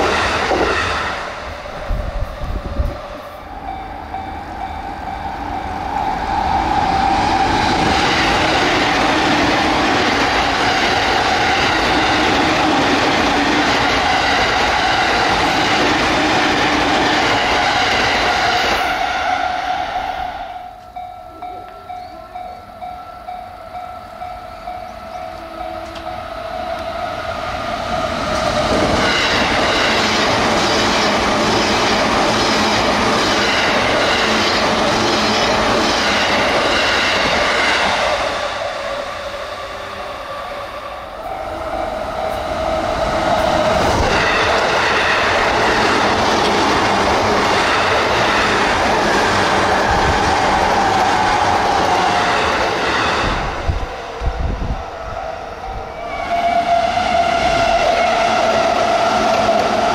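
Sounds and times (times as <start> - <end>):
electric train running on rails: 0.0 - 59.9.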